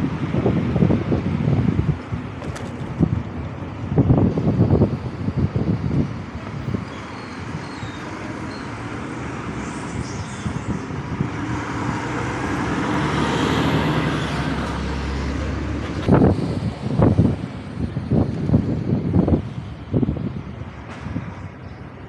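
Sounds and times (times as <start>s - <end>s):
road traffic noise: 0.0s - 22.0s
wind on microphone: 0.0s - 22.0s.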